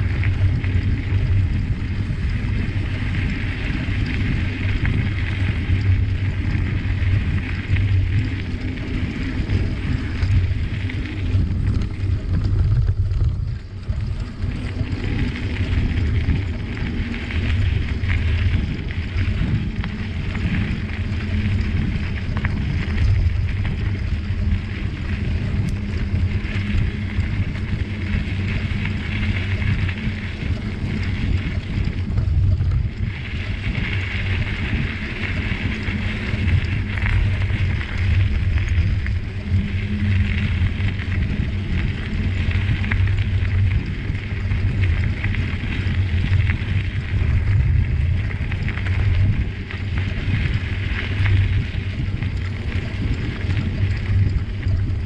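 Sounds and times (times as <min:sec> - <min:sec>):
bicycle rolling on trail: 0:00.0 - 0:55.0
wind rushing over microphone: 0:00.0 - 0:55.0.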